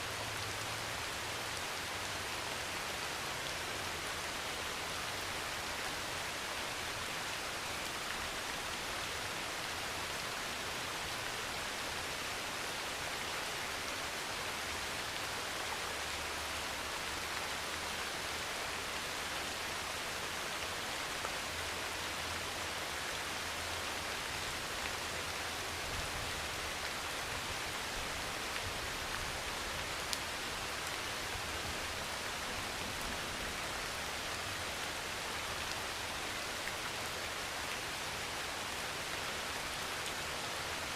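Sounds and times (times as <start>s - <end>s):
rain on a metal roof: 0.0s - 40.9s.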